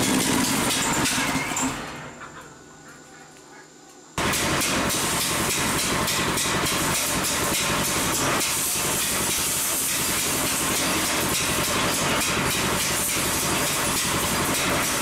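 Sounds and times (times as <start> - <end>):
threshing machine rattling whir: 0.0 - 2.2, 4.2 - 15.0.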